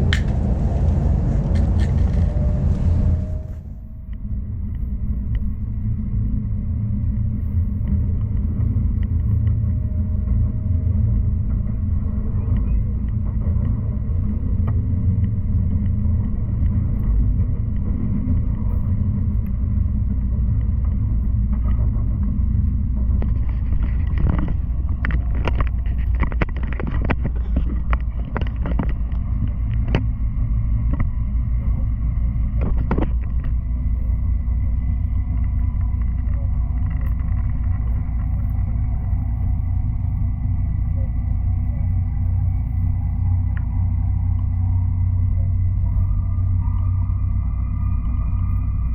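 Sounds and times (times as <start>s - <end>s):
faint steady whine: 0.0s - 48.9s
train cabin low rumble: 0.0s - 48.9s.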